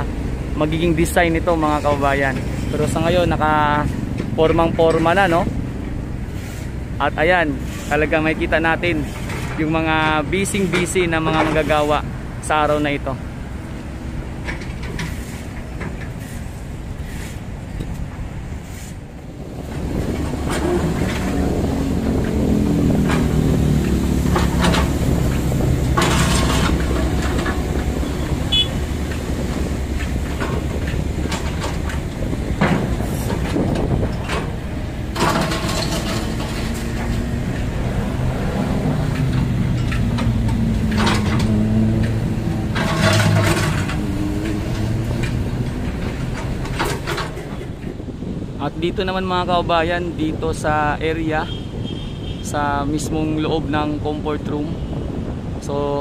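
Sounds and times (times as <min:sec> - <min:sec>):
diesel excavator engine running: 0:00.0 - 0:48.4.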